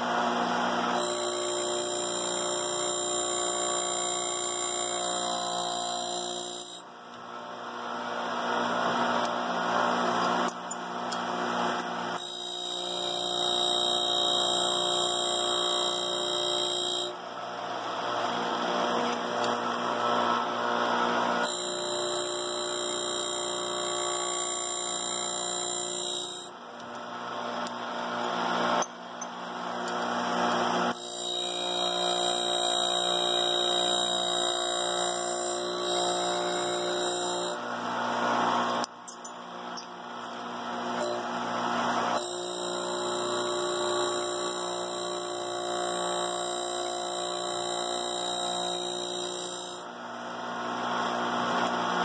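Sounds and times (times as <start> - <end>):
grinder machine whine: 0.0 - 52.0.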